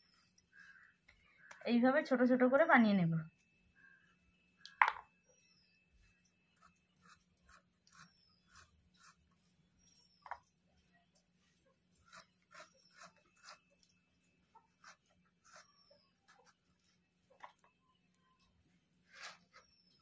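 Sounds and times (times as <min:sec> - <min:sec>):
bird chirping: 0:02.9 - 0:20.0.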